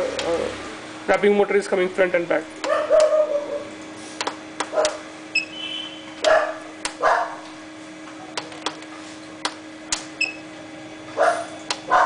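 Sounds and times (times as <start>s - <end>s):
machine motor hum: 0.0s - 12.0s.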